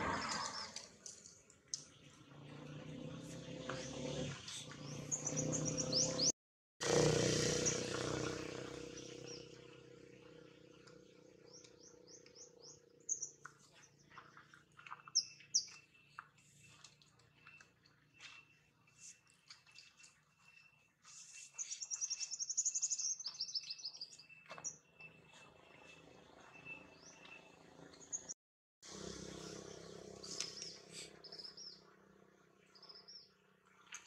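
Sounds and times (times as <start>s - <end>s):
birds chirping: 0.0s - 6.3s, 7.5s - 28.4s, 29.3s - 33.6s.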